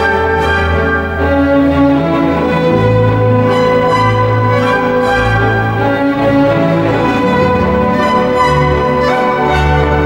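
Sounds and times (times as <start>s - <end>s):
orchestral strings music: 0.0s - 10.0s
sustained bass: 0.0s - 10.0s.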